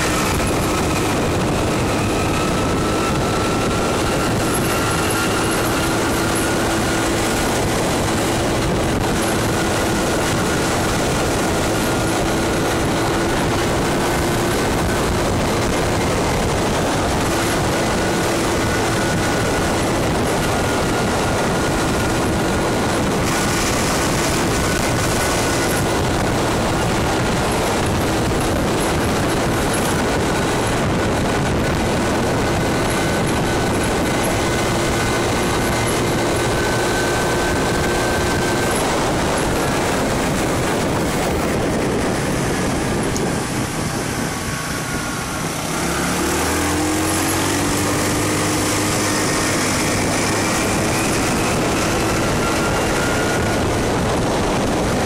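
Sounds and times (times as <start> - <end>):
scooter engine whine: 0.0 - 55.0
wind noise: 0.0 - 55.0.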